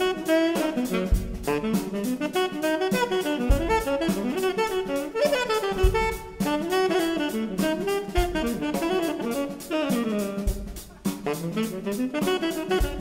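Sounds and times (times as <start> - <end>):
horn melody: 0.0 - 13.0
jazz band playing: 0.0 - 13.0
low drum thumps: 0.0 - 13.0.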